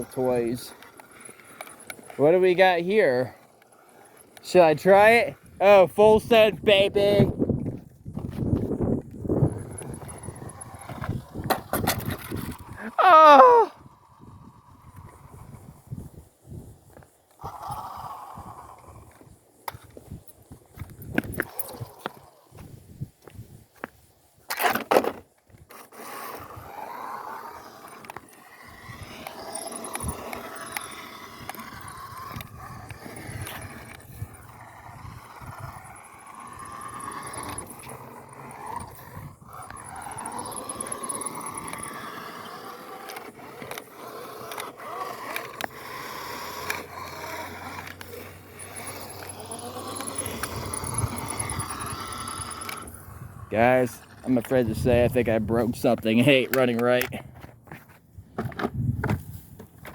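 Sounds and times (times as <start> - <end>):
rc car motor whining and grinding: 0.0 - 22.6, 24.6 - 57.1.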